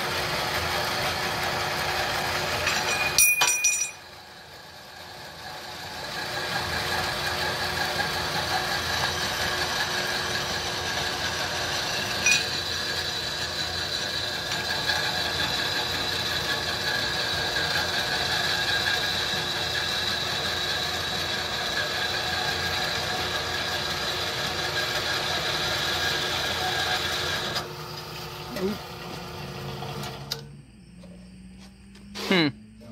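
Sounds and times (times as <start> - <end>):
band saw cutting metal: 0.0 - 3.2, 4.3 - 30.3.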